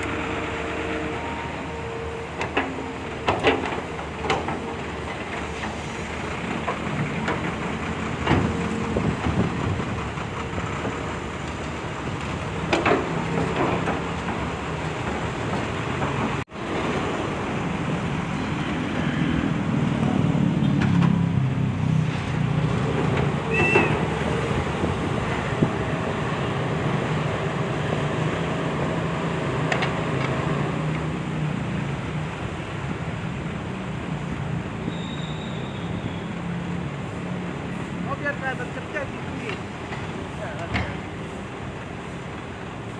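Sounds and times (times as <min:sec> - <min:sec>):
excavator diesel engine running: 0:00.0 - 0:34.8.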